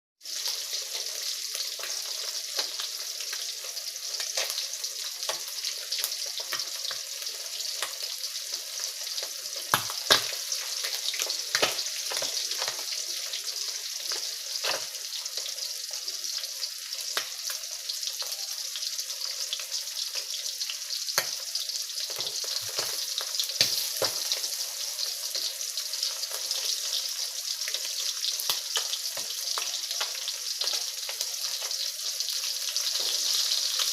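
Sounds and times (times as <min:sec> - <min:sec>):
fish frying in hot oil: 0:00.2 - 0:33.9.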